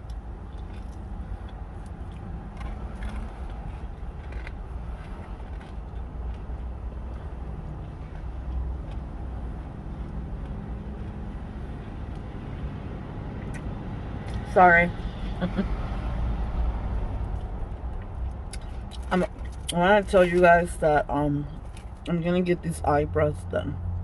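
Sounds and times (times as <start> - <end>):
low rumble of wind: 0.0 - 24.0.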